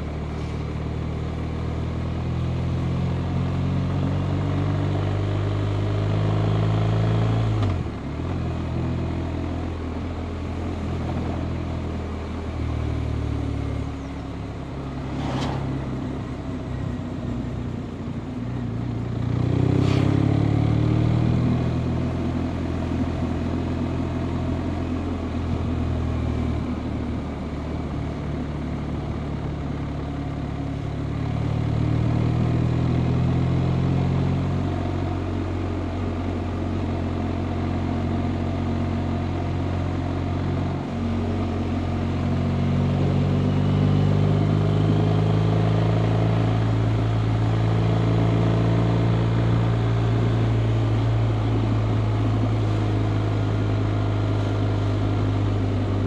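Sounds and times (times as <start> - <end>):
road rush: 0.0 - 56.0
wind: 0.0 - 56.0.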